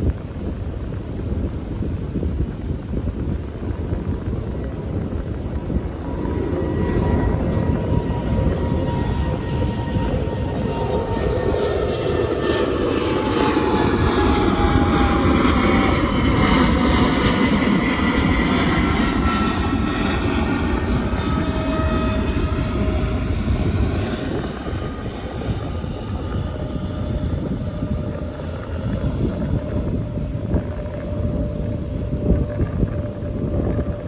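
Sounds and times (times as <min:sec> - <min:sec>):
airplane passing overhead: 0:00.0 - 0:34.0
wind rumbling on microphone: 0:00.0 - 0:34.0.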